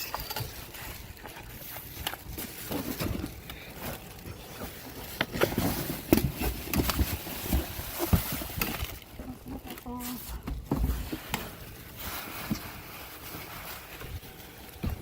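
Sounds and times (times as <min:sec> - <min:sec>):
rustling of food packages: 0:00.0 - 0:15.0.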